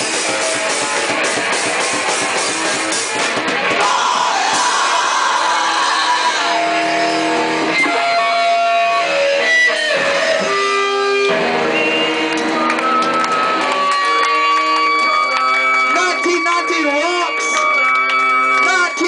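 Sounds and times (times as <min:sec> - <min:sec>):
electric guitar chords: 0:00.0 - 0:19.0.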